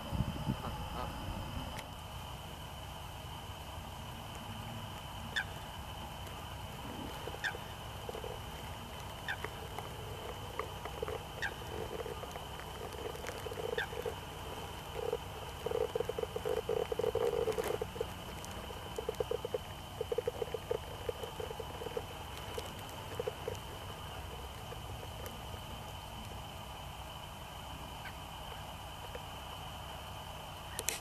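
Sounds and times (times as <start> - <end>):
rapid low pulsed animal calls: 0.0 - 4.0, 4.8 - 31.0
low background rumble: 0.0 - 31.0.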